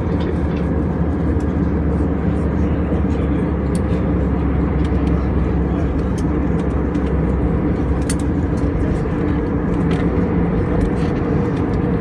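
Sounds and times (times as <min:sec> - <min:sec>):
aircraft cabin engine drone: 0:00.0 - 0:12.0.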